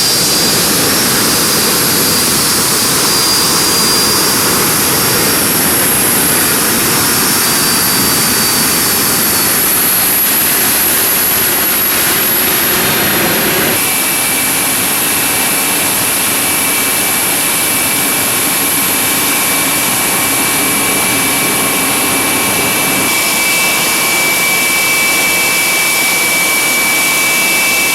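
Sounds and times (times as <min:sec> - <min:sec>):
high-pitched engine whines: 0:00.0 - 0:27.9
turbofan engines running: 0:00.0 - 0:27.9.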